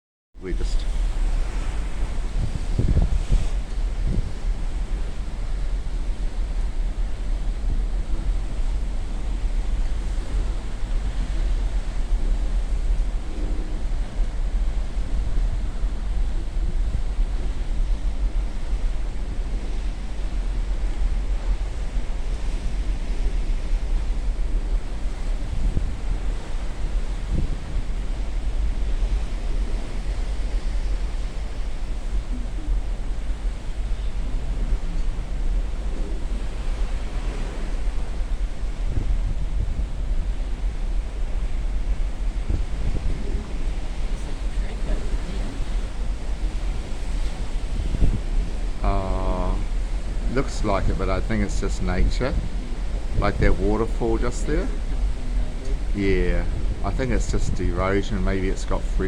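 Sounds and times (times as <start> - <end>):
wind buffeting microphone: 0.4 - 59.0.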